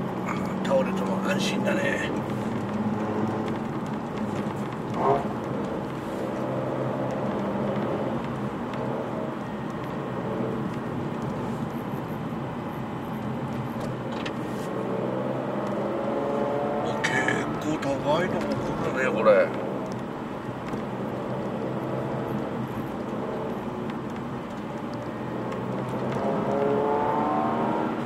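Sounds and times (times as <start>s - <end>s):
car engine running: 0.0s - 28.0s
tyre and road noise: 0.0s - 28.0s.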